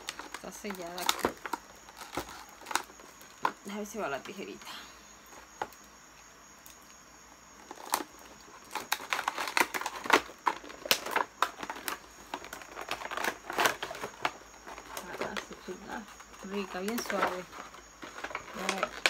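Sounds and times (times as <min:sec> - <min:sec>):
plastic wrapping crinkling: 0:00.0 - 0:04.3, 0:07.6 - 0:19.0.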